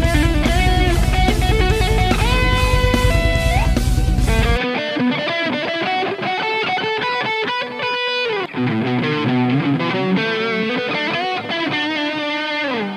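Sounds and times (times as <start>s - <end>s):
electric guitar solo: 0.0s - 12.9s.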